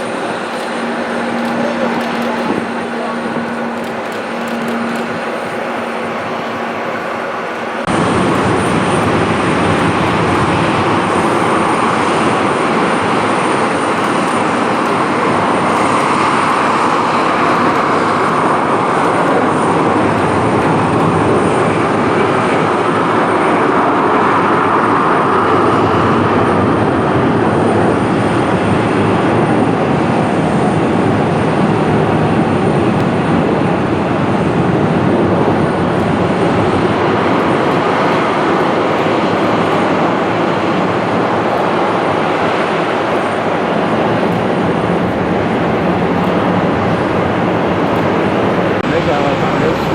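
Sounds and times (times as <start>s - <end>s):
faint high whine: 0.0s - 49.9s
jet engines roaring: 0.0s - 49.9s.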